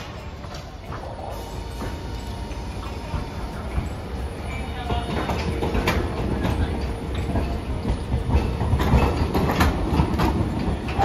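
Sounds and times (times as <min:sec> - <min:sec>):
tram rumbling past: 0:00.0 - 0:11.0.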